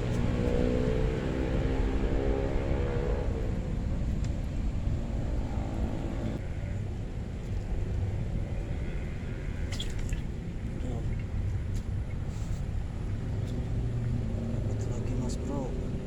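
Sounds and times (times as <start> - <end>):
low rumble of traffic: 0.0 - 16.0
passing vehicle engine hum: 0.0 - 16.0.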